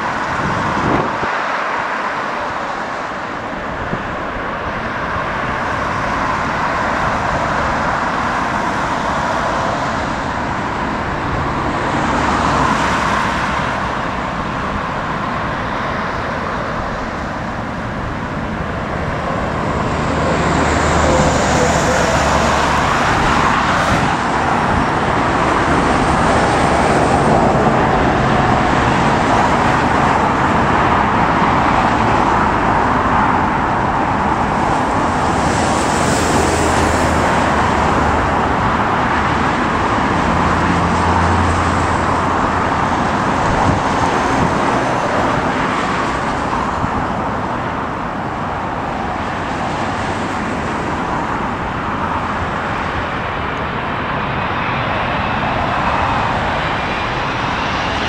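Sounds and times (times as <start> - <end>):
airliner jet engines roaring: 0.0 - 58.0
road traffic: 0.0 - 58.0
wind buffeting microphone: 0.0 - 58.0.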